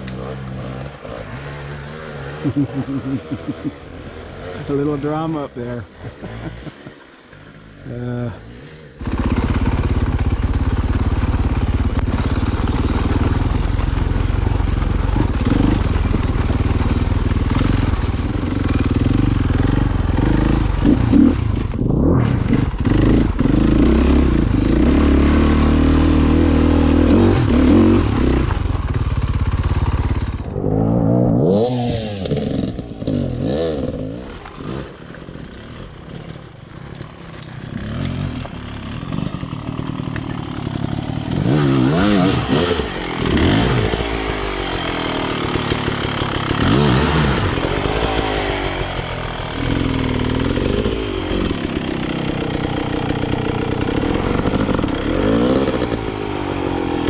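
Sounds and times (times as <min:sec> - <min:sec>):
dirt bike engine revving: 0:00.0 - 0:36.6, 0:37.6 - 0:57.0.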